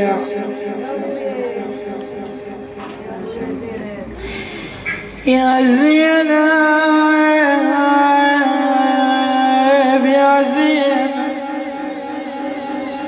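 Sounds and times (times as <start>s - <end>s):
woman chanting a lament: 0.0s - 13.0s.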